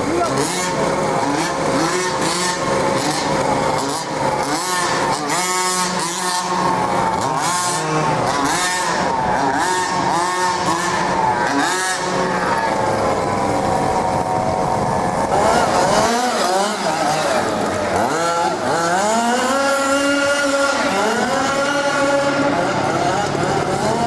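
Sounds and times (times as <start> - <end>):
small two-stroke engines revving: 0.0 - 24.0.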